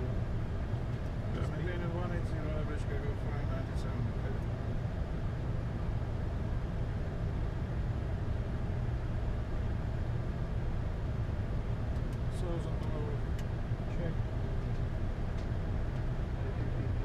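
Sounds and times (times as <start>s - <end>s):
aircraft engines: 0.0s - 17.0s.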